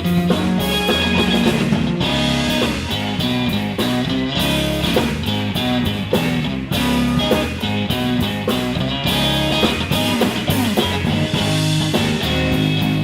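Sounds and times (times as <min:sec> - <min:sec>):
electric guitar: 0:00.0 - 0:13.0
live blues rock band: 0:00.0 - 0:13.0.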